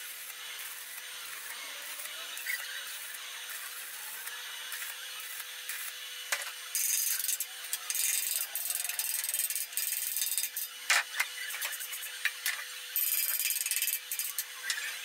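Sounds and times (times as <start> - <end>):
welding arc crackling and hissing: 0.0 - 15.0.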